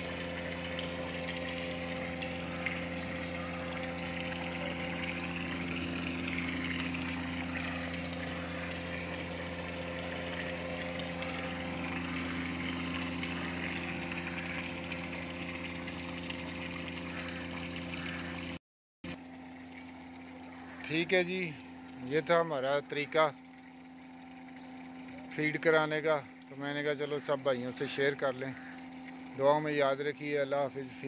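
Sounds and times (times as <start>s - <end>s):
aeration pump humming underwater: 0.0s - 31.0s
water noise: 0.0s - 31.0s.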